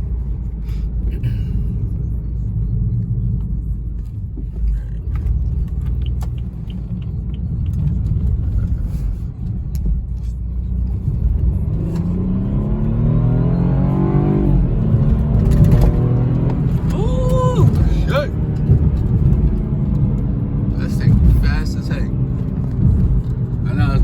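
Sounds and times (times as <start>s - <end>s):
car engine accelerating: 0.0s - 24.0s
road rumble: 0.0s - 24.0s.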